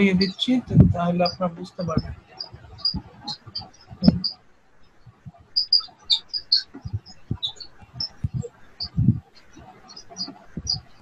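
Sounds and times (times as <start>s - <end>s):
soft low thumps: 0.0s - 11.0s.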